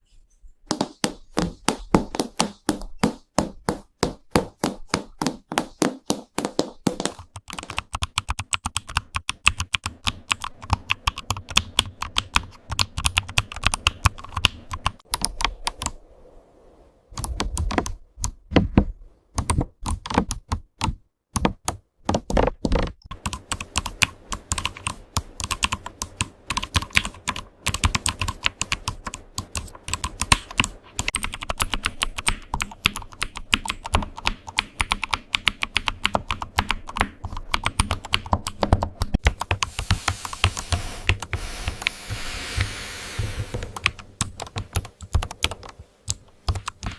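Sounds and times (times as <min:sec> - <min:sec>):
keyboard keys clicking: 0:00.8 - 0:16.0, 0:17.2 - 0:18.8, 0:19.4 - 0:41.9, 0:43.6 - 0:46.9.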